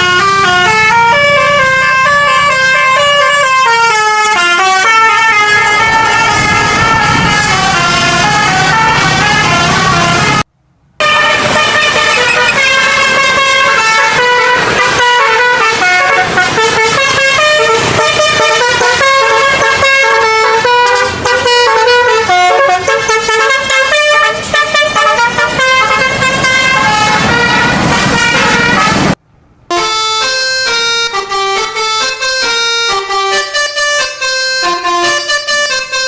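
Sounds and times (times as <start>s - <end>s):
multi-tone air horn melody: 0.0s - 36.0s.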